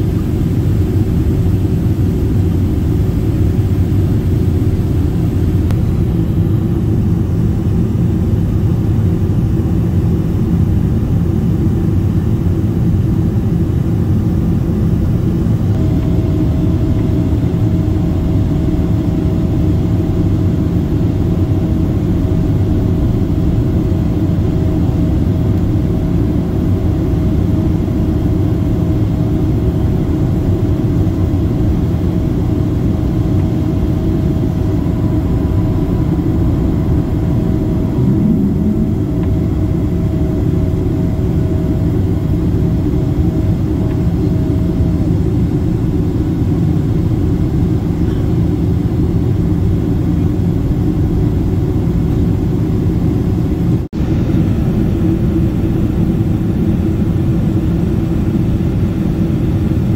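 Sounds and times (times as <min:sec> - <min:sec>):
jet engine roar in cabin: 0:00.0 - 0:59.9
steady hum: 0:00.0 - 0:59.9.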